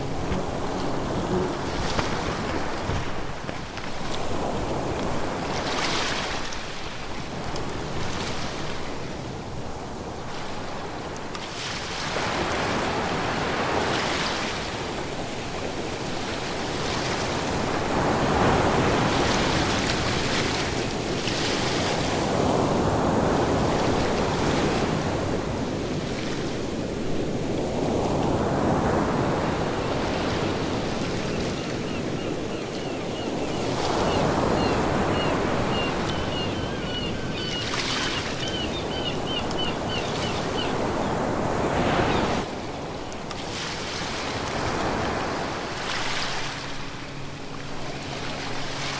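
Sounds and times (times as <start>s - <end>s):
ocean waves breaking on shore: 0.0s - 48.9s
wind: 0.0s - 48.9s.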